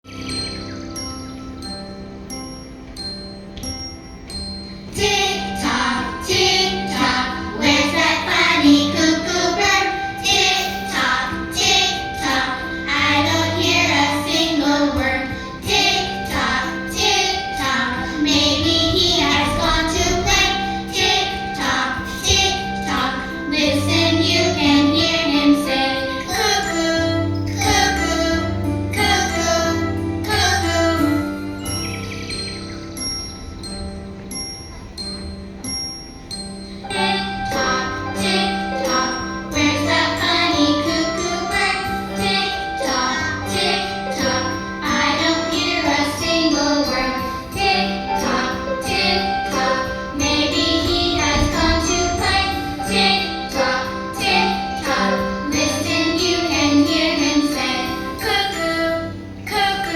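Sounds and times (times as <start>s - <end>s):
chiming: 0.0s - 59.9s
music accompaniment: 0.0s - 59.9s
children singing together: 4.9s - 32.4s, 36.9s - 59.9s.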